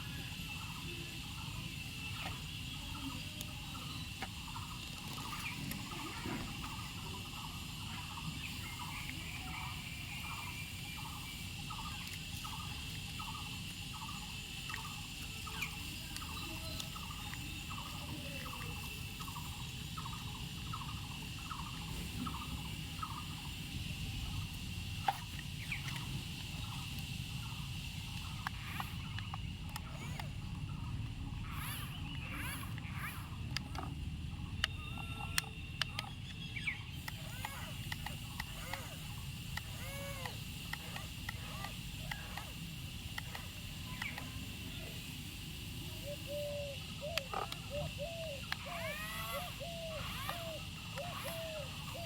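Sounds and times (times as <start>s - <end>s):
insect chirping call: 0.0s - 52.0s
insect drone: 0.0s - 52.0s.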